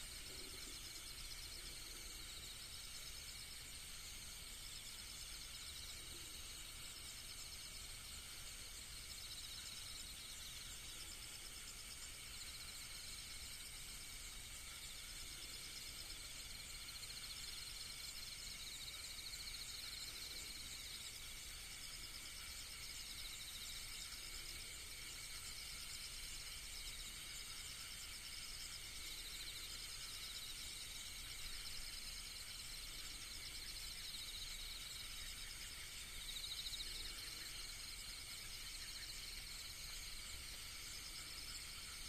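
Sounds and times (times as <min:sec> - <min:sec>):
background hiss: 0:00.0 - 0:42.0
insect trills: 0:00.0 - 0:42.0.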